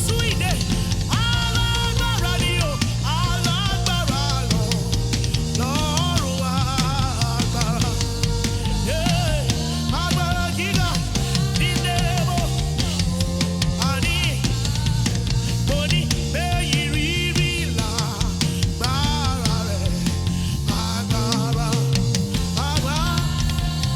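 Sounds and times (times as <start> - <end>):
bass notes: 0.0 - 23.9
drum kit beat: 0.0 - 23.9.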